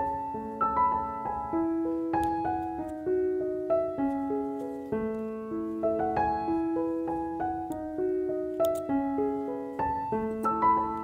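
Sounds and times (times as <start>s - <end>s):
gentle solo piano melody: 0.0s - 11.0s.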